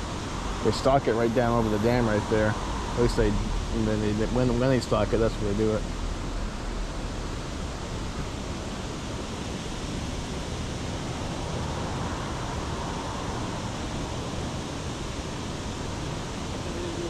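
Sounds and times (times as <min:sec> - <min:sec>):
water rushing over small dam: 0:00.0 - 0:17.0.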